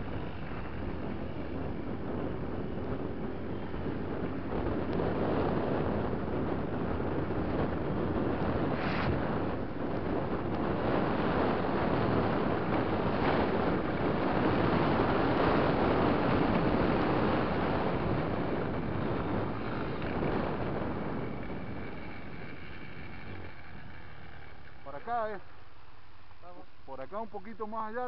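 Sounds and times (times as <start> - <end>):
wind rushing over microphone: 0.0 - 25.4
motorcycle engine: 0.0 - 26.4.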